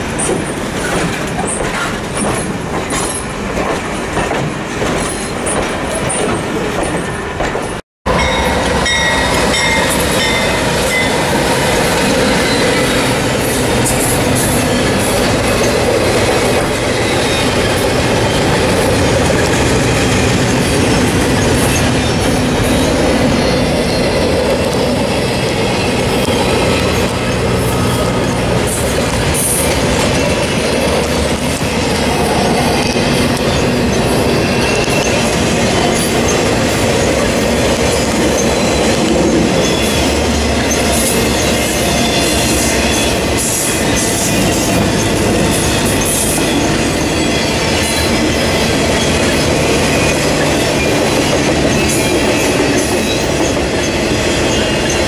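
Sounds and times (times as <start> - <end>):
freight train wheels rumbling: 0.0 - 55.0
passenger train rolling by: 0.0 - 55.0.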